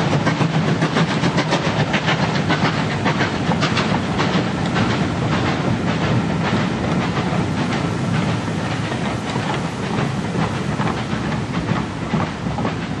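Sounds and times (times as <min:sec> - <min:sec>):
train coaches rumbling past: 0:00.0 - 0:13.0
wheels clicking over rail joints: 0:00.0 - 0:13.0.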